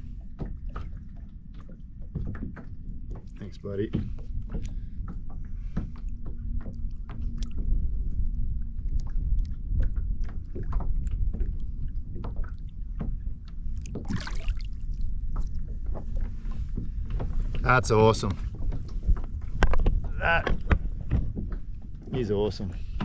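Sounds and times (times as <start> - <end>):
knocks and clicks against kayak hull: 0.0 - 8.0, 9.0 - 14.2, 15.1 - 23.0
low rumble: 0.0 - 23.0.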